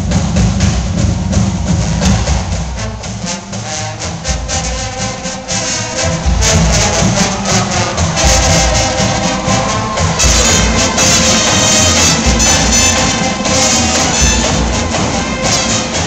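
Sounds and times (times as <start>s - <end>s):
brass and drum band playing: 0.0s - 16.0s.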